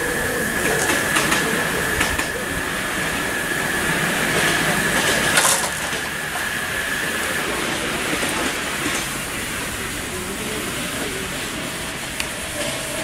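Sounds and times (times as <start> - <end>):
high wheel squeal: 0.0 - 13.0
miniature train hiss and rumble: 0.0 - 13.0.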